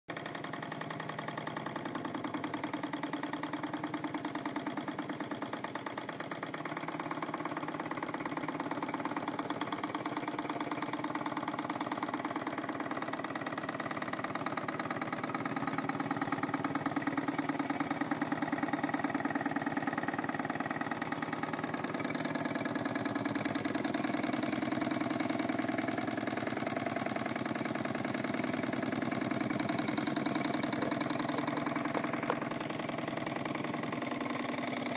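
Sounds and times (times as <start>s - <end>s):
toy steam engine chuffing: 0.1s - 34.9s.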